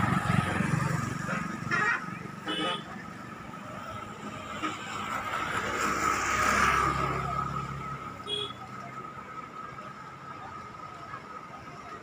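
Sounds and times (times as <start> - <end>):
vehicle passing by: 0.0 - 10.5.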